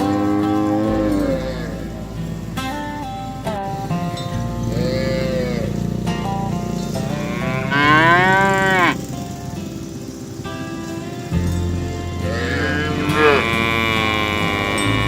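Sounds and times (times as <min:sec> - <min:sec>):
cows mooing: 0:00.0 - 0:09.4, 0:12.1 - 0:15.0
background music with held notes: 0:00.0 - 0:15.0.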